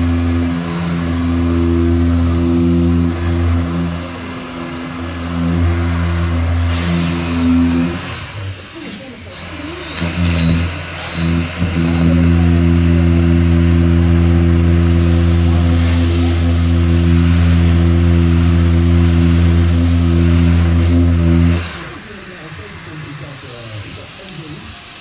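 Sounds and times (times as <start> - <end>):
workshop machine motor humming: 0.0 - 25.0.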